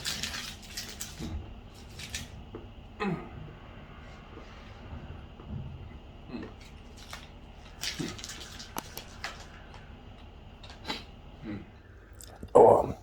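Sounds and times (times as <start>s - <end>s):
eating and dish-handling sounds: 0.0s - 3.3s, 5.4s - 13.0s.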